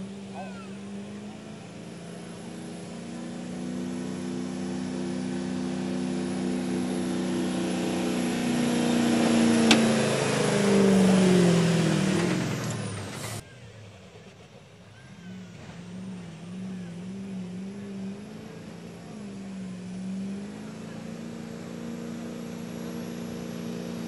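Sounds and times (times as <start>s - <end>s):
truck engine running under load: 0.0s - 24.0s.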